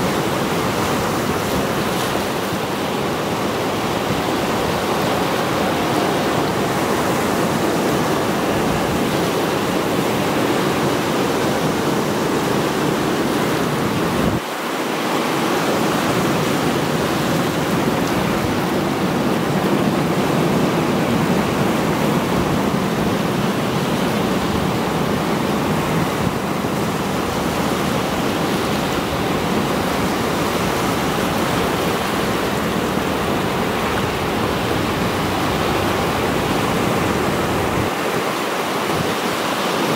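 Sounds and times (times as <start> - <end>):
sea surf washing over rocky shore: 0.0 - 39.9.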